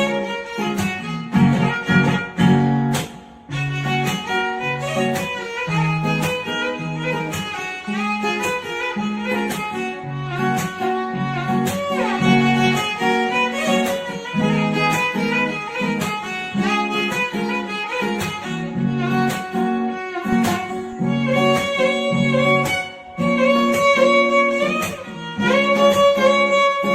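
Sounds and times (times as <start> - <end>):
violin-like melody: 0.0 - 26.9.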